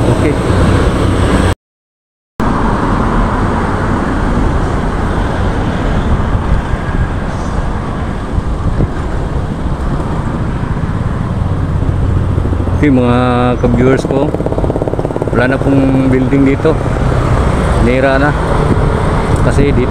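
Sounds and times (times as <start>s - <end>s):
street traffic passing: 0.0s - 1.6s, 2.4s - 19.9s.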